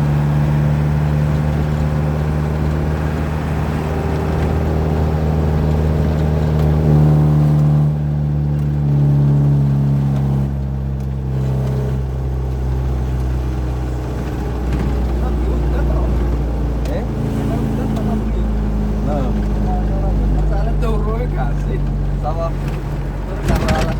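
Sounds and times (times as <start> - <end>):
diesel truck engine running: 0.0 - 23.9.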